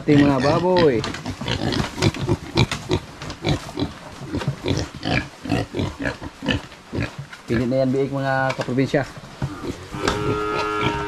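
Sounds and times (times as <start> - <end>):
pigs grunting: 0.0 - 7.9, 9.1 - 11.0.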